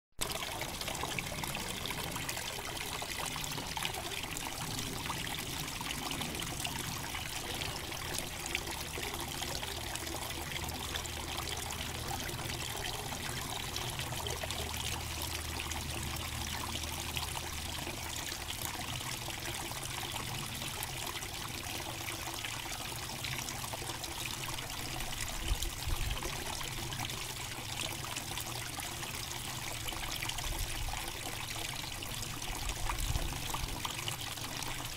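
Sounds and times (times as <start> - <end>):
small waterfall splashing into pond: 0.2 - 34.9.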